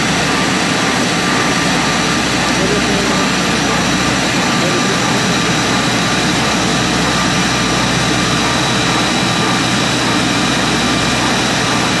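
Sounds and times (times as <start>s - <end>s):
jet turbine roaring: 0.0s - 12.0s.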